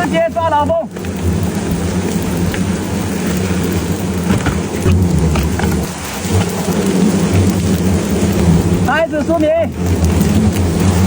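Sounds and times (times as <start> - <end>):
hornets buzzing: 0.0 - 11.0.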